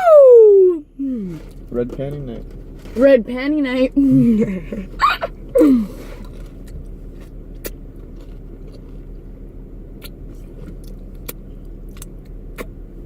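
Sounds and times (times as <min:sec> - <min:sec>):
car cabin hum: 0:00.0 - 0:13.0.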